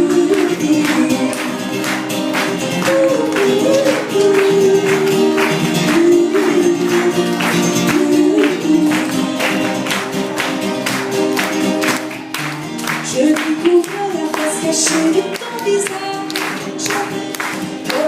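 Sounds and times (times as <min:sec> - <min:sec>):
live pop band playing: 0:00.0 - 0:18.0.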